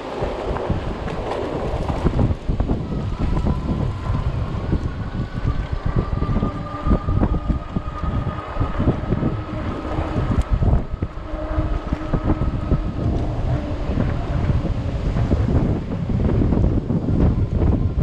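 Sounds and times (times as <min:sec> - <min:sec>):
faint high whine: 0:00.0 - 0:18.0
wind buffeting microphone: 0:00.0 - 0:18.0.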